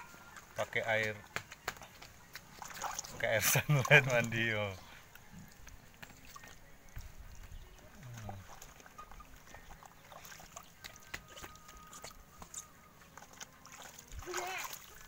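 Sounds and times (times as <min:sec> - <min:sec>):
small splashes: 0:01.0 - 0:15.0
water sloshing in plastic basin: 0:01.0 - 0:15.0.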